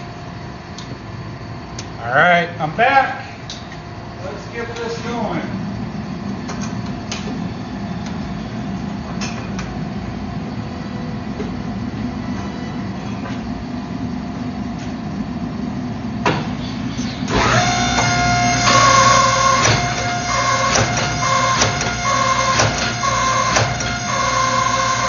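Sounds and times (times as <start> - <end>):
gas forge roaring: 0.0 - 25.0
hydraulic press whine: 0.0 - 25.0
hydraulic press running: 3.5 - 25.0.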